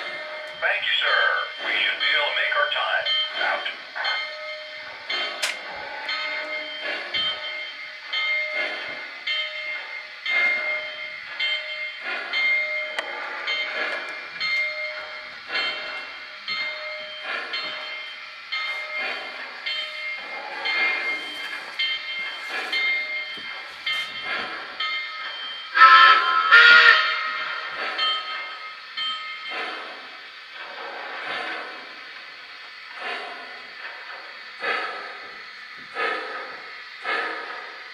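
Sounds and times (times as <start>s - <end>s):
model steam locomotive chuffing: 0.0s - 37.9s
train rumbling on track: 0.0s - 37.9s.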